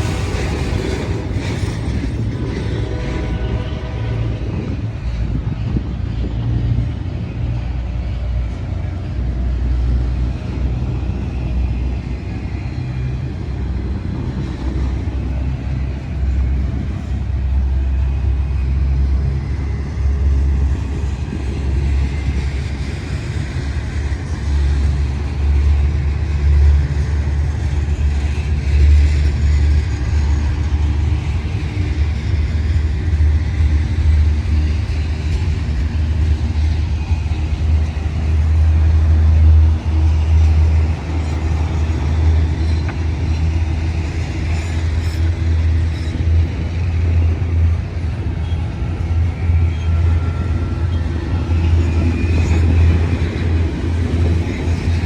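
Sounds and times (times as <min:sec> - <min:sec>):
train passing rumble: 0:00.0 - 0:55.0.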